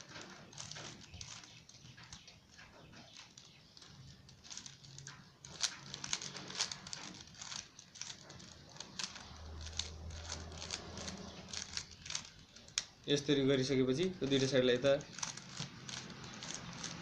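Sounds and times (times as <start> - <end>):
puzzle cube clicking as turned: 0.0 - 2.3, 3.2 - 13.0, 15.1 - 17.0.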